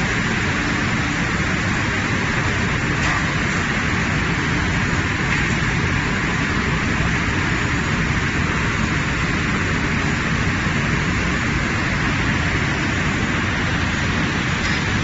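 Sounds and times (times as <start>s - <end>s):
production line machinery running: 0.0s - 15.0s.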